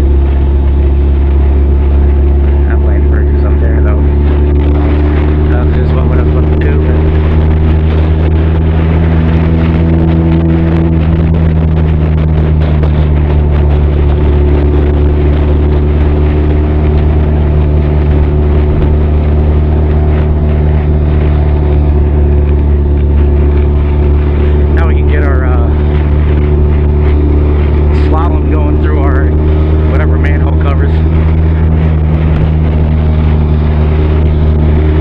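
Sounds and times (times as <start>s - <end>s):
motorcycle engine and exhaust: 0.0s - 35.0s.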